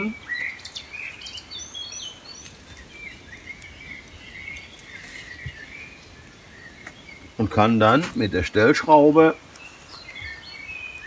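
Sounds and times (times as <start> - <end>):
faint outdoor hiss: 0.0 - 11.0
songbirds chirping and singing: 0.0 - 11.0.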